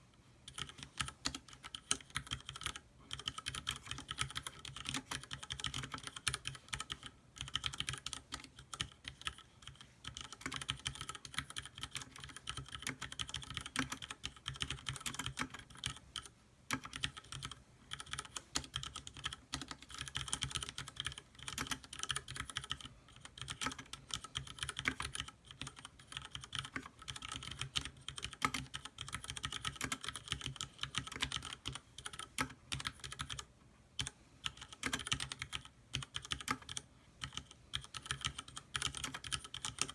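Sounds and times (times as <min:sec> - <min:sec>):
mechanical keyboard typing: 0:00.5 - 0:39.9.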